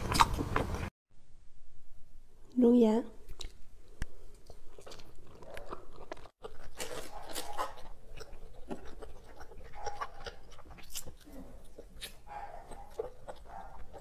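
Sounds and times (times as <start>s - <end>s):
biting and chewing cake: 0.0s - 0.9s, 3.2s - 14.0s.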